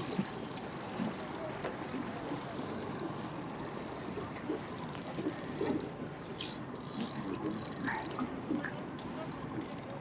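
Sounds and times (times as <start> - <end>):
water noise: 0.0 - 9.7
wind: 0.0 - 10.0.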